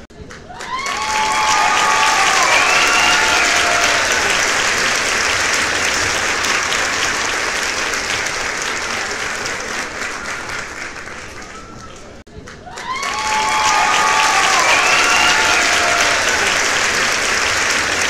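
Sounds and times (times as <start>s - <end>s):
crowd cheering: 0.0s - 18.0s
crowd clapping: 0.0s - 18.0s.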